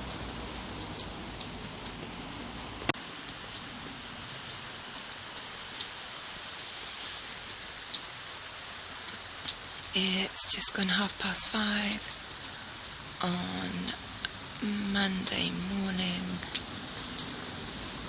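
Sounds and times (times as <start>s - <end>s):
steady rain falling: 0.0s - 18.0s
water drips: 0.0s - 18.0s.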